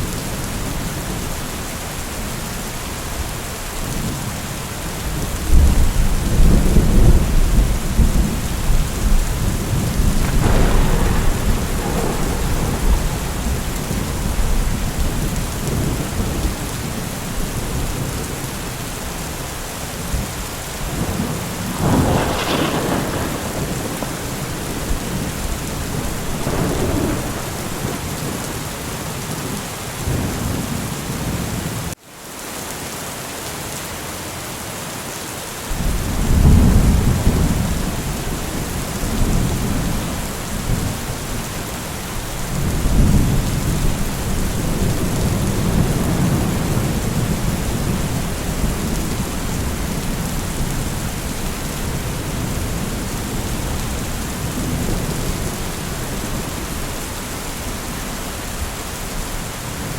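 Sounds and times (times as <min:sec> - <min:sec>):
steady rain: 0:00.0 - 0:59.9
low rolls of thunder: 0:05.0 - 0:19.0, 0:20.0 - 0:31.6, 0:35.7 - 0:59.9.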